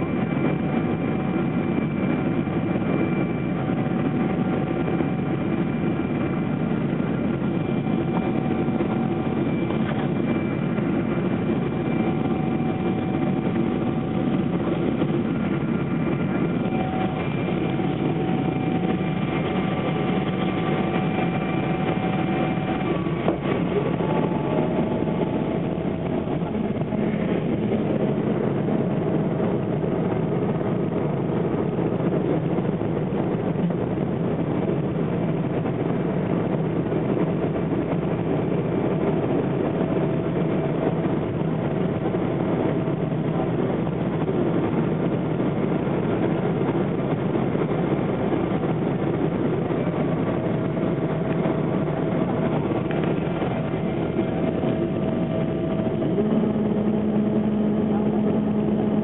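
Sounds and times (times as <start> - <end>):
airplane cabin engine rush: 0.0 - 59.0
faint steady whine: 0.0 - 59.0.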